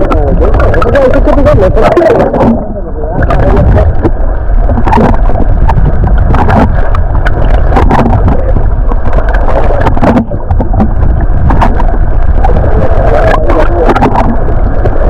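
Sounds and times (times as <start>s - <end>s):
boat engine noise: 0.0s - 15.0s
knocks and splashes: 0.0s - 15.0s
wind on microphone: 0.0s - 15.0s.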